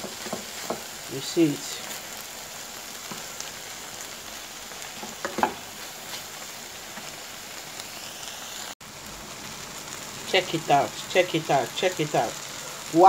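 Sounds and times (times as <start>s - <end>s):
sauce sizzling in a hot pan: 0.0s - 13.0s.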